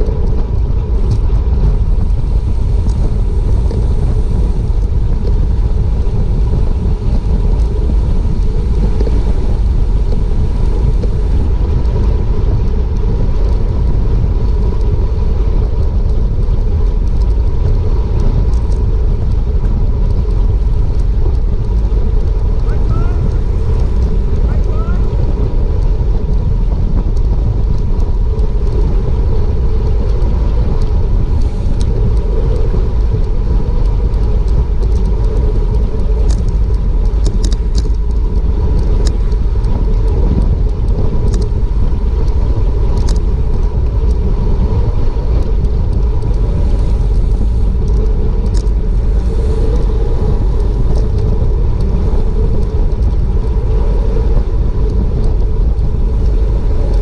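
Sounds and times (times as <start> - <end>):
sharp clicks from bike: 0.0 - 57.0
wind buffeting microphone: 0.0 - 57.0.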